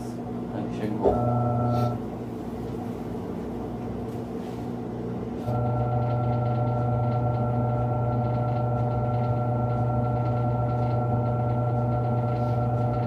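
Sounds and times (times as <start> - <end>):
appliance electrical hum: 0.0 - 13.0.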